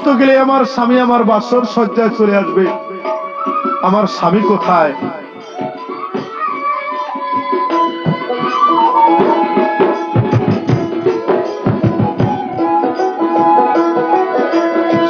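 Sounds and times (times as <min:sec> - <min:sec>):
held melody line: 0:00.0 - 0:15.0
hand drums: 0:01.4 - 0:15.0.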